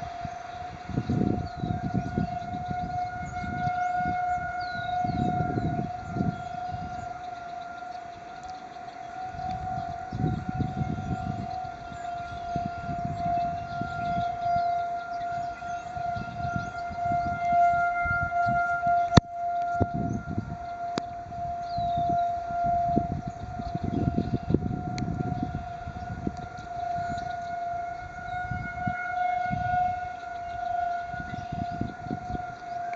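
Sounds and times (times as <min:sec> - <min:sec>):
warning siren steady tone: 0:00.0 - 0:32.9
wind noise on microphone: 0:00.0 - 0:32.9.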